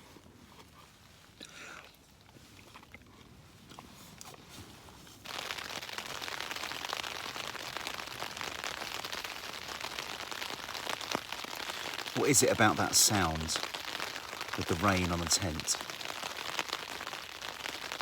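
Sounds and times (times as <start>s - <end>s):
rain on a tent: 0.0s - 18.0s.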